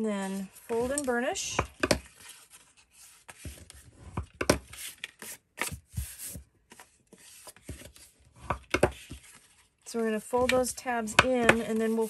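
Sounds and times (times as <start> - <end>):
paper scraping and rustling: 2.0 - 12.0.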